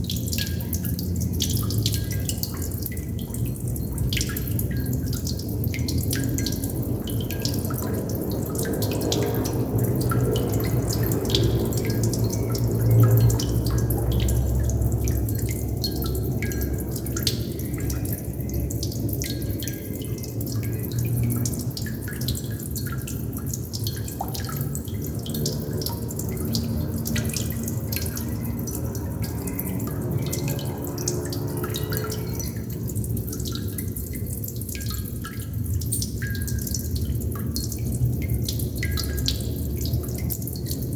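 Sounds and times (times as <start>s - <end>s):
low rush of water: 0.0s - 40.9s
water droplets plinking: 0.0s - 40.9s.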